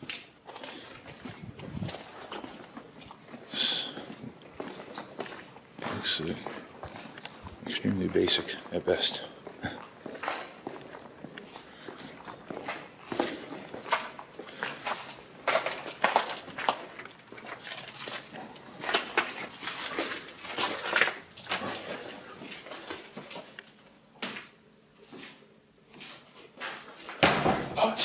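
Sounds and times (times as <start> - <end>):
footsteps crunching on littered floor: 0.0 - 27.2.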